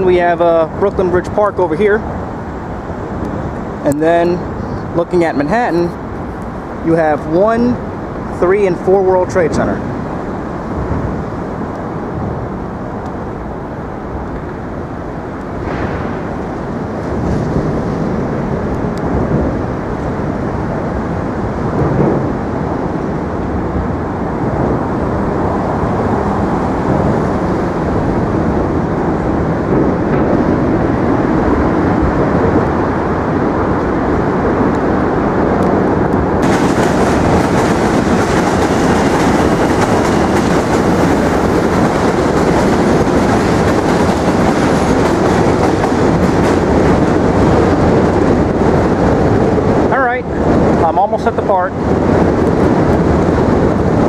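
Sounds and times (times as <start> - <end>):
subway train rumbling and clattering: 0.0 - 54.0.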